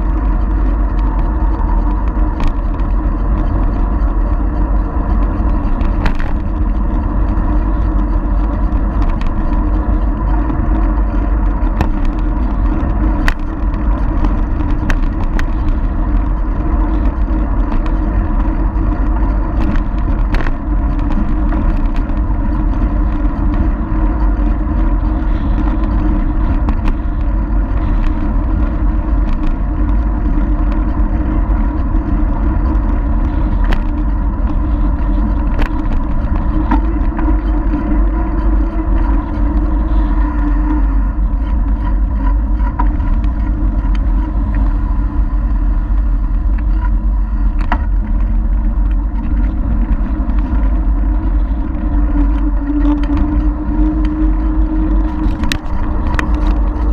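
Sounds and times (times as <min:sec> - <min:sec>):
bicycle clicks and rattles: 0:00.0 - 0:56.9
bicycle road noise: 0:00.0 - 0:56.9
wind rumble: 0:00.0 - 0:56.9.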